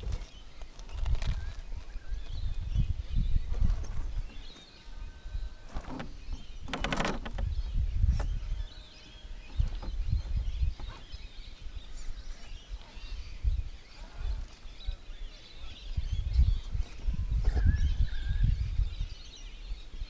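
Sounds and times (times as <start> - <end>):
birds chirping: 0.0 - 20.0
wind rumble on microphone: 0.0 - 20.0.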